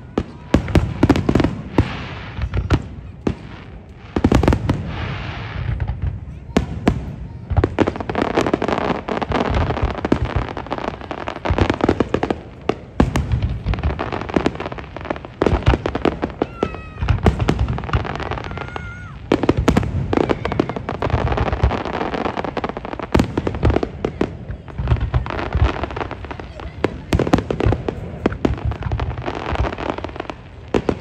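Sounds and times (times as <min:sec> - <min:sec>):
fireworks booming and crackling: 0:00.0 - 0:31.0.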